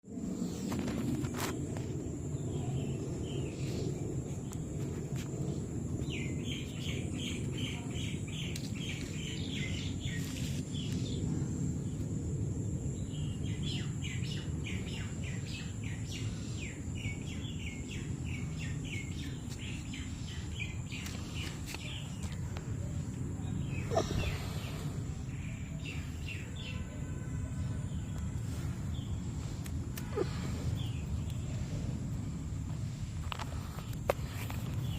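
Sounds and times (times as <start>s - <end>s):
steady low rumble: 0.0s - 34.9s.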